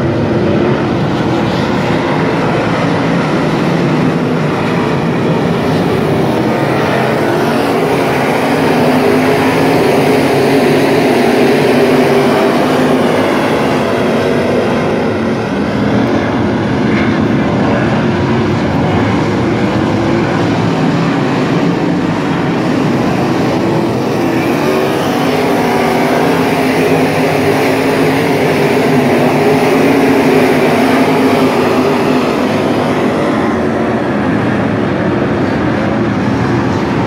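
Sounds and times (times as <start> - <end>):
race car engines droning: 0.0 - 37.0.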